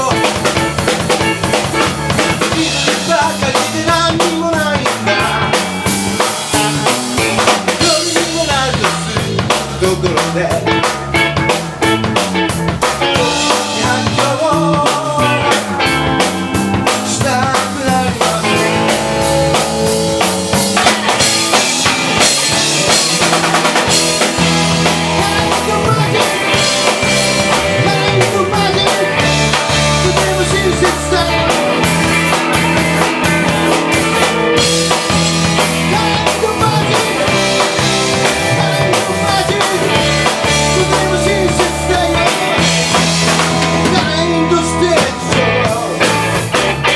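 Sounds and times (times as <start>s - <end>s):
drum kit rimshots: 0.0s - 46.9s
live rock band playing: 0.0s - 46.9s.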